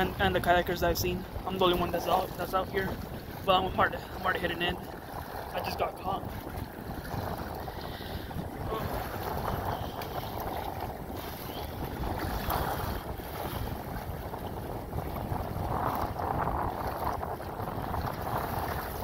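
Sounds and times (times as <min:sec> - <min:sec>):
waves splashing against kayak: 0:00.0 - 0:19.0
wind buffeting microphone: 0:00.0 - 0:19.0.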